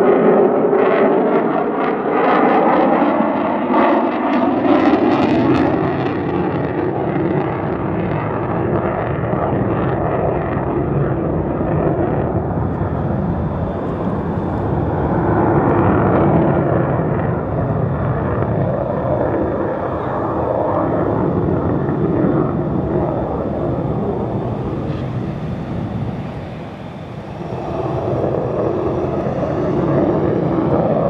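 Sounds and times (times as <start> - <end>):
jet engine rumble: 0.0 - 31.0.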